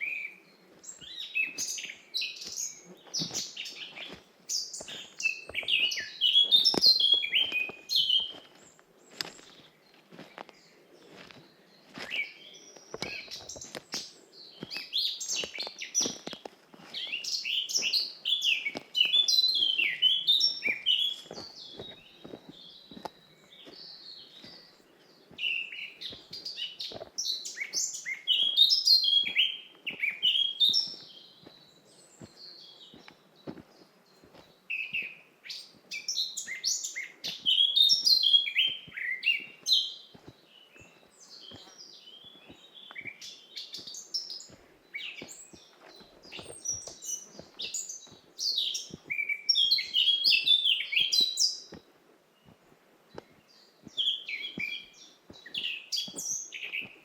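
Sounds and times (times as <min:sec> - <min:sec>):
soft footsteps on forest path: 0:00.0 - 0:57.0
songbirds chirping and trilling: 0:00.0 - 0:57.0.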